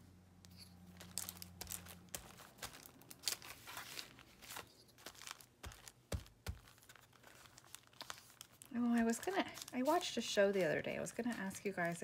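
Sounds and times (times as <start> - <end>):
paper crinkling and rustling: 0.8 - 12.0.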